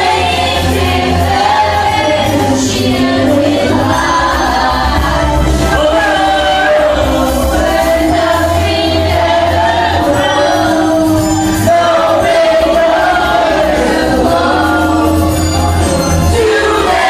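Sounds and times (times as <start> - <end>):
karaoke backing track: 0.0 - 17.0
people singing together: 0.0 - 17.0.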